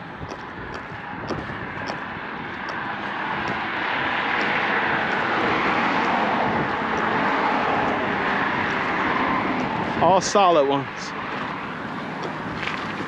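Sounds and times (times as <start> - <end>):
highway traffic rushing: 0.0 - 13.0
vehicle passing: 0.0 - 13.0.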